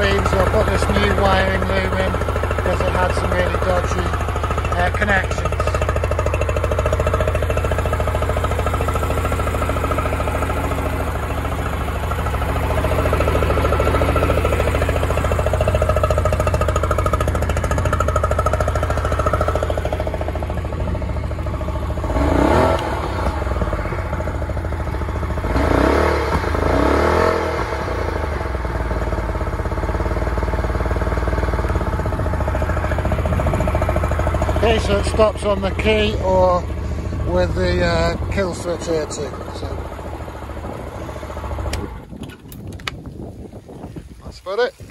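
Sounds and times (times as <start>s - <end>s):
outboard motor idling and revving: 0.0s - 43.9s.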